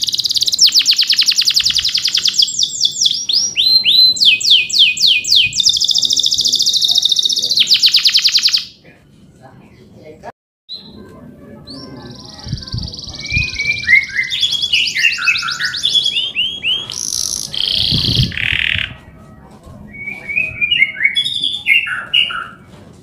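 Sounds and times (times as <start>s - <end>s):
canary singing: 0.0s - 8.8s, 10.7s - 19.2s, 19.8s - 22.6s.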